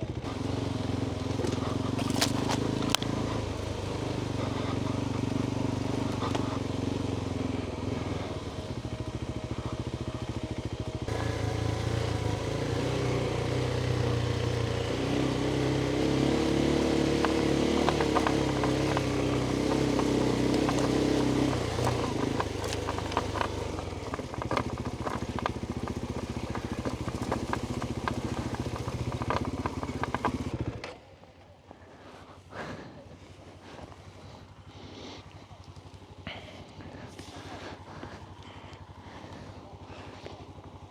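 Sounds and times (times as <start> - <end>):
motorcycle engine revving: 0.0 - 31.2, 33.3 - 40.9
clicks and clatter from trail: 0.1 - 40.9.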